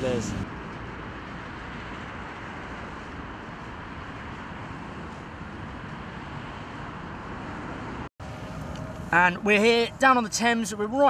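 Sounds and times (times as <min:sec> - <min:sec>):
road traffic rushing: 0:00.0 - 0:11.0.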